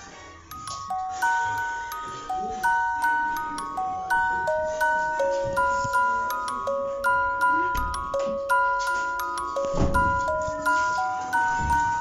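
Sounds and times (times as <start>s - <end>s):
music box melody: 0.0s - 12.0s.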